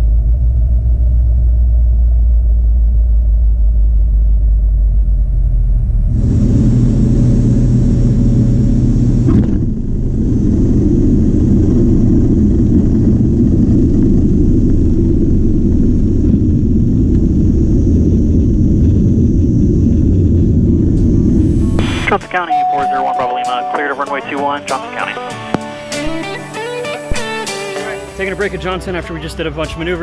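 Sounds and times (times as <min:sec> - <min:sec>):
low rumble on runway: 0:00.0 - 0:26.4
propeller airplane engine hum: 0:00.0 - 0:29.0.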